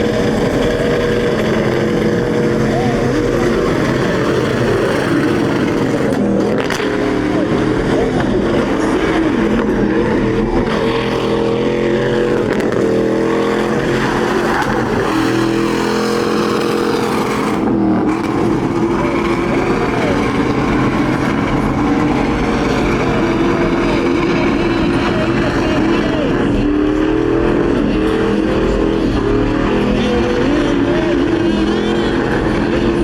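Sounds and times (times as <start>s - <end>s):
truck engines revving: 0.0s - 33.0s
voices: 0.0s - 33.0s.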